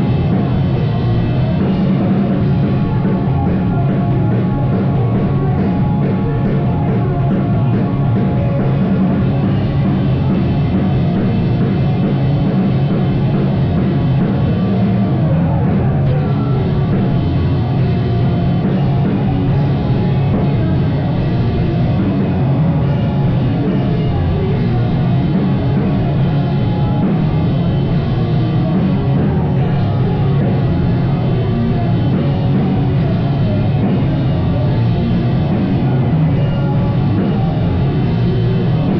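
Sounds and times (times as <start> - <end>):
distorted live rock band: 0.0 - 38.9.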